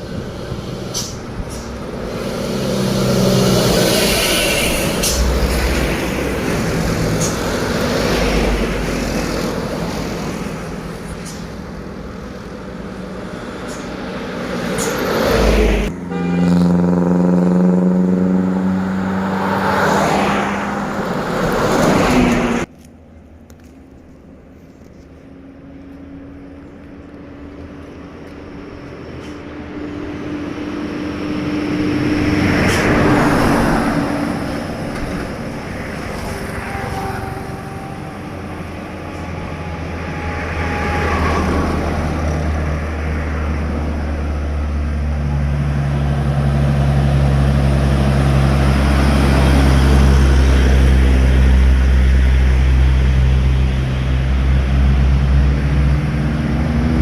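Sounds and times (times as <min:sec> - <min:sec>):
truck diesel engine pulling hard: 0:00.0 - 0:22.7, 0:29.3 - 0:57.0
vehicles passing on highway: 0:00.0 - 0:57.0.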